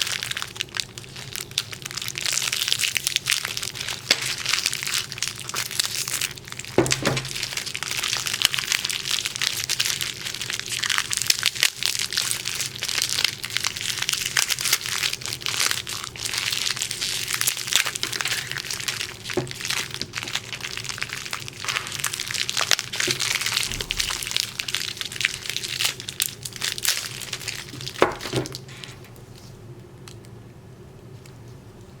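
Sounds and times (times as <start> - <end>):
material crinkling and crackling: 0.1 - 10.1, 12.2 - 30.2.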